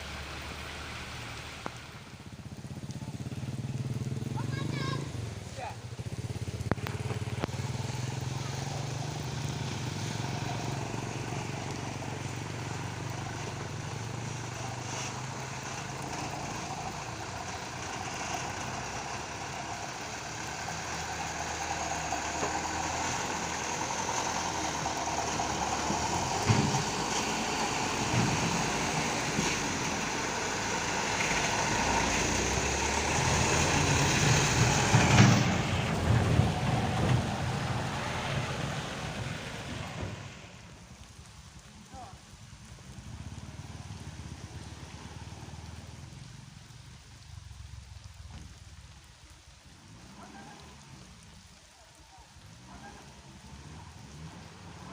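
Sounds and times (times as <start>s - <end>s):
wide noisy hiss: 0.0s - 54.9s.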